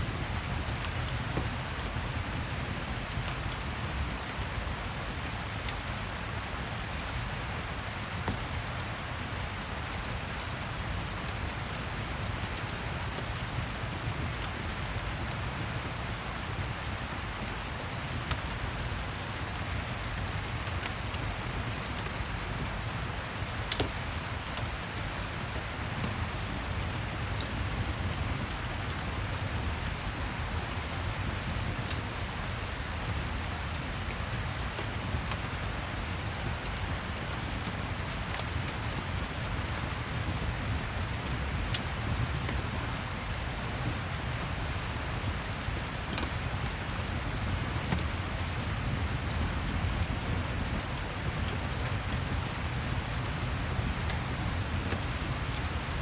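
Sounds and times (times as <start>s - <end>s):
rain hiss: 0.0s - 56.0s
wood fire crackling: 0.0s - 56.0s.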